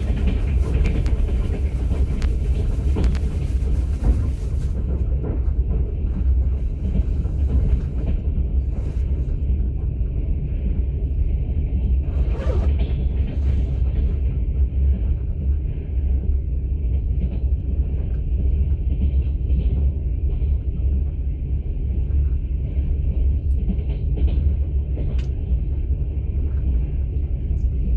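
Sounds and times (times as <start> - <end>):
train rumble: 0.0 - 27.9.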